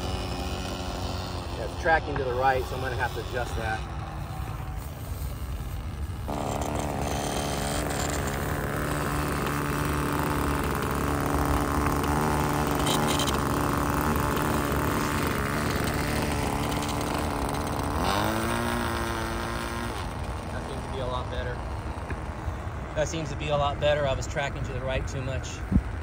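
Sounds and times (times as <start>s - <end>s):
model plane engine idling: 0.0s - 26.0s.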